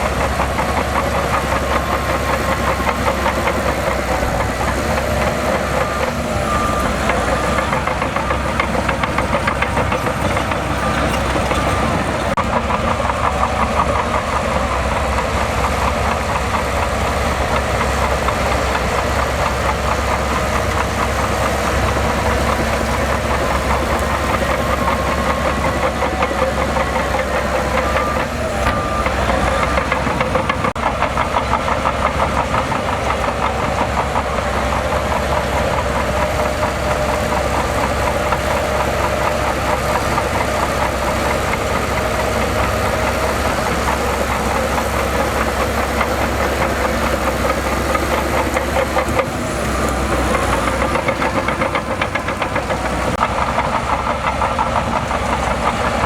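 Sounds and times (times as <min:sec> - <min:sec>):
diesel engine clattering: 0:00.0 - 0:56.0.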